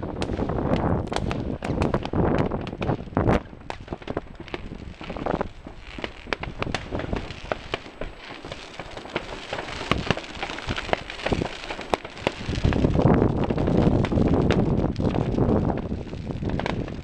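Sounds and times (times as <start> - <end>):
crackling hiss: 0.0 - 17.0
fireworks cracking and popping: 0.0 - 17.0.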